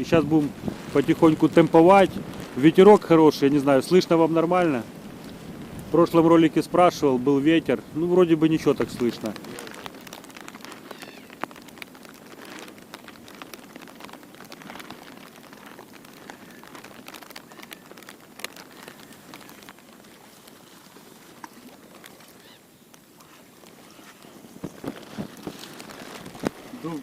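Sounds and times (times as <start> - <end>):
rain pattering: 0.0 - 27.0
raindrops ticking close by: 0.0 - 27.0.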